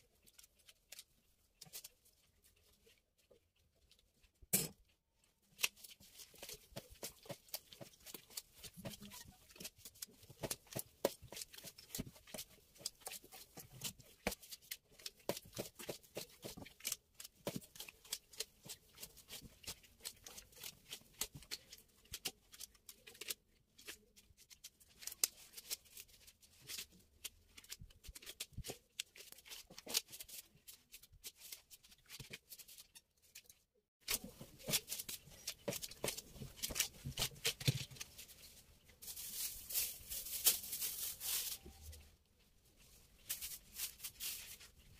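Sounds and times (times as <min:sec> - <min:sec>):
hands kneading sticky dough: 0:00.0 - 0:44.9.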